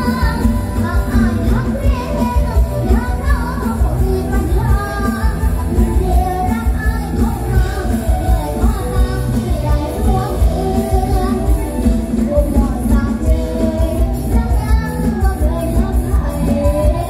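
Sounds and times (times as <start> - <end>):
band music through pa system: 0.0 - 17.0
person singing: 0.0 - 17.0.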